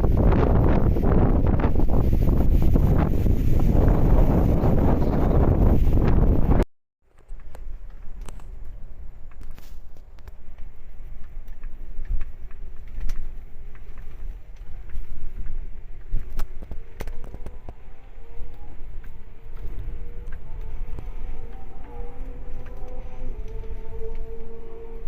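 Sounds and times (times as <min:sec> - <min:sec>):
wind buffeting microphone: 0:00.0 - 0:06.6, 0:07.2 - 0:25.0.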